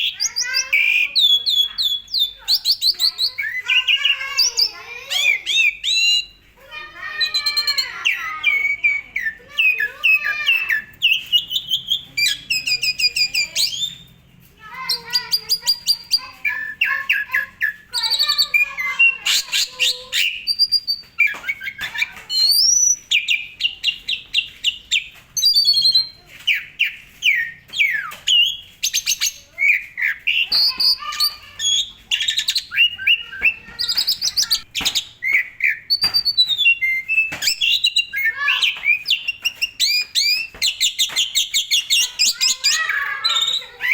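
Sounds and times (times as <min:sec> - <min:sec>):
starling singing: 0:00.0 - 0:43.9.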